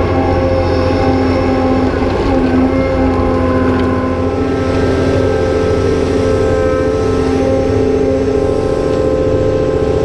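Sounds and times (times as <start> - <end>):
excavator diesel engine under load: 0.0 - 10.0
hydraulic pump whine: 0.0 - 10.0.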